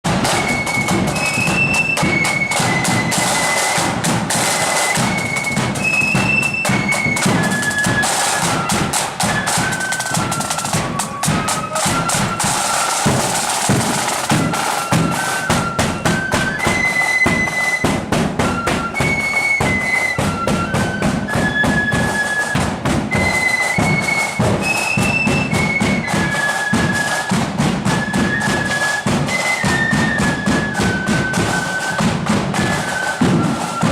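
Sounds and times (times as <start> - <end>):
snare drum beats: 0.0 - 33.9
flute melody: 0.1 - 33.9.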